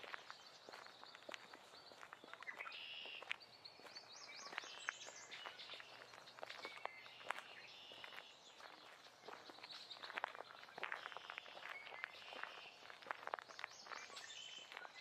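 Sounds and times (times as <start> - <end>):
birds singing: 0.0 - 15.0
soft footsteps on forest floor: 0.0 - 15.0.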